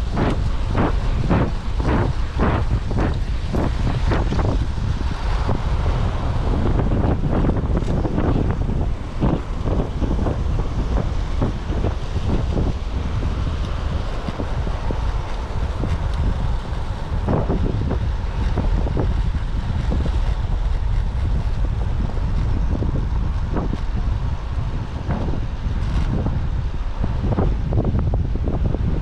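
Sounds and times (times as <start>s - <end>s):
strong wind buffeting microphone: 0.0s - 29.0s.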